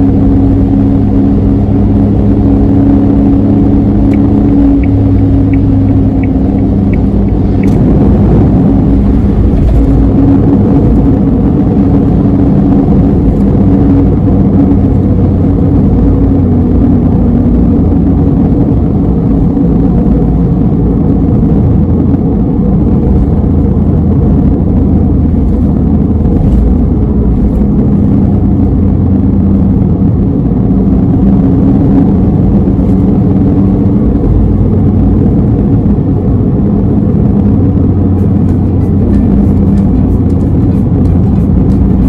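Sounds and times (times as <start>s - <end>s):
tyre and road rumble: 0.0s - 42.0s
van engine running: 0.0s - 42.0s.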